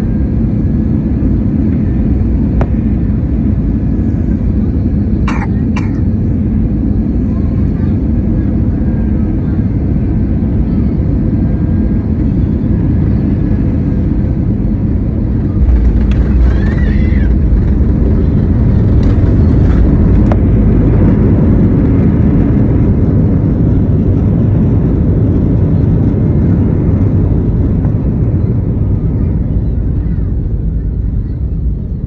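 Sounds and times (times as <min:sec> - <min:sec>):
airliner engine rumble: 0:00.0 - 0:32.0.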